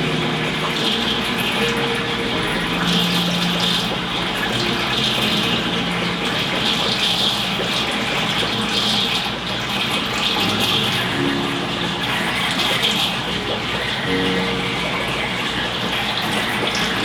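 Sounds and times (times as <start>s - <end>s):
aquarium water running: 0.0s - 17.0s.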